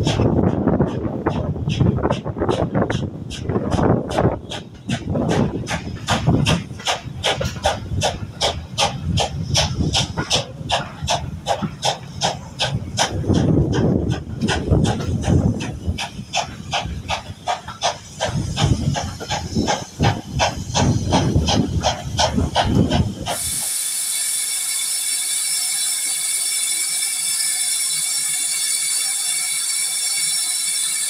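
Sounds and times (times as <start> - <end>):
steam hissing from locomotive: 0.0 - 31.0
steam train running: 0.0 - 31.0.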